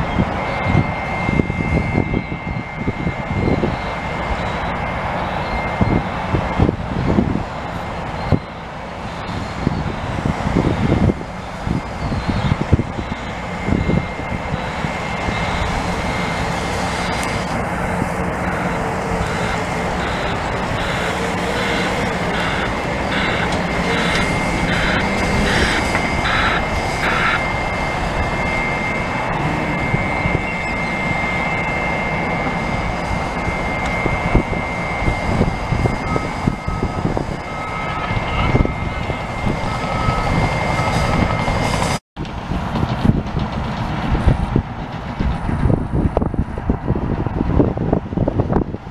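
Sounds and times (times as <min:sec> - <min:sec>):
reversing alarm beeping: 0:00.0 - 0:42.0
bulldozer diesel engine under load: 0:00.0 - 0:47.9.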